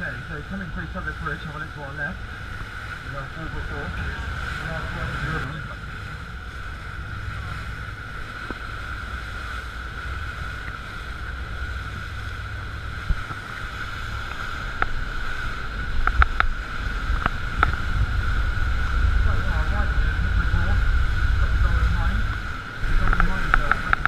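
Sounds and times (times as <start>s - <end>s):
boat engine drone: 0.0s - 24.0s
water rushing along hull: 0.0s - 24.0s
wind buffeting microphone: 0.0s - 24.0s.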